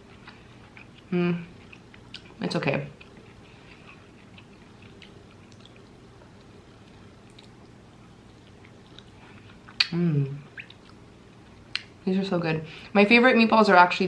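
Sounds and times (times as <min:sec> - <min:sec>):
person chewing: 0:00.0 - 0:11.9.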